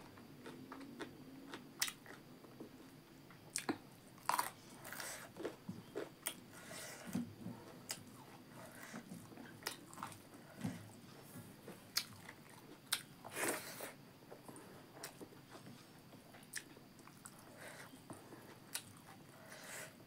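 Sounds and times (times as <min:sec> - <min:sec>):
crunchy chewing: 0:00.0 - 0:02.3, 0:03.5 - 0:19.9.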